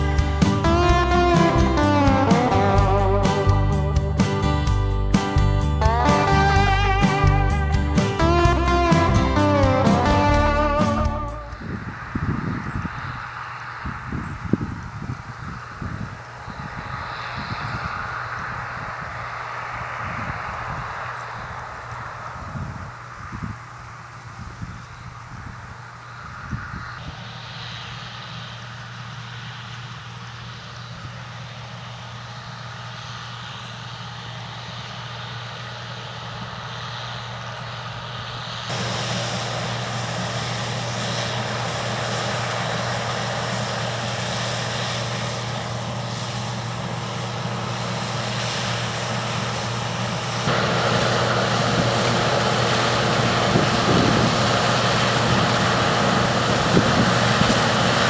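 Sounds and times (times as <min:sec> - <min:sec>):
combine harvester machinery running: 0:00.0 - 0:58.0.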